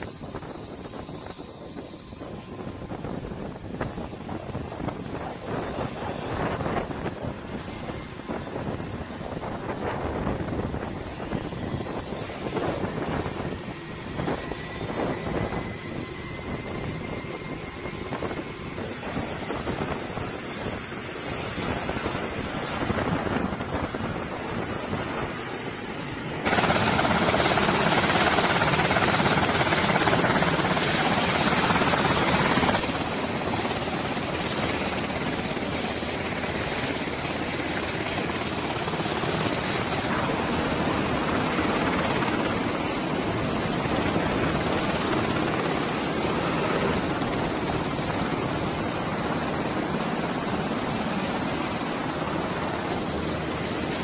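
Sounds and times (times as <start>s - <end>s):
helicopter engines and rotors: 0.0s - 54.0s.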